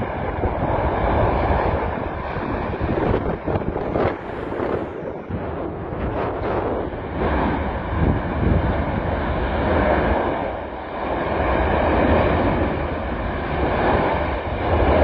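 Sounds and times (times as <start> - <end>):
deep roar of erupting volcano vent: 0.0 - 15.0.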